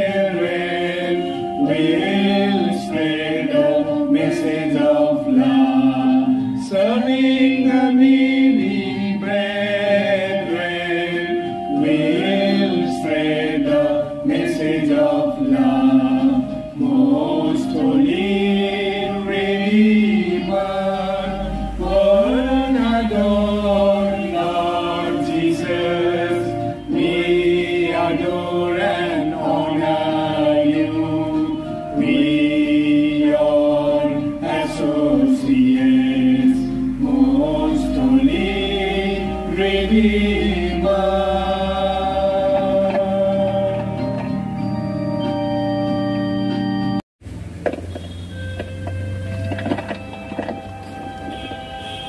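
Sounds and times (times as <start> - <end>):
group singing a hymn: 0.0 - 44.7
electronic keyboard chords: 0.0 - 52.0.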